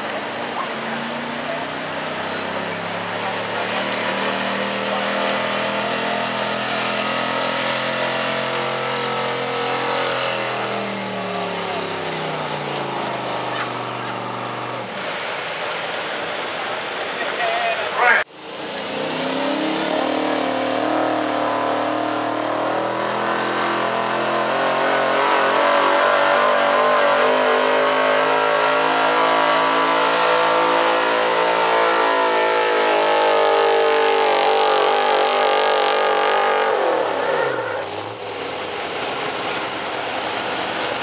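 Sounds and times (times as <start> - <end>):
truck engine at full throttle: 0.0 - 41.0.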